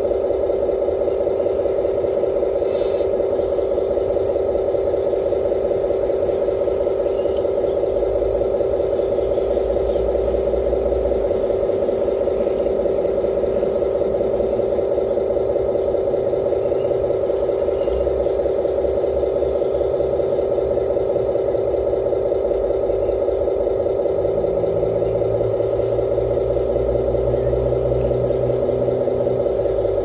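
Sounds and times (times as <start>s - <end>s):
model excavator mechanical hum: 0.0s - 30.0s.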